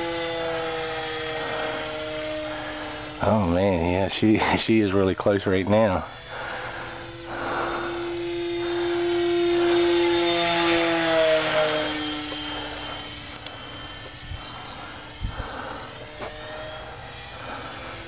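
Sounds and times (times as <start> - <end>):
model plane motor whining overhead: 0.0 - 18.0.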